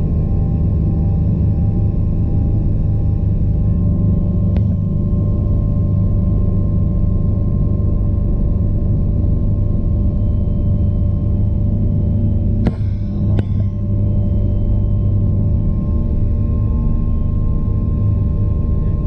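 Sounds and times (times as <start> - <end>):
helicopter engines and rotor: 0.0 - 19.0.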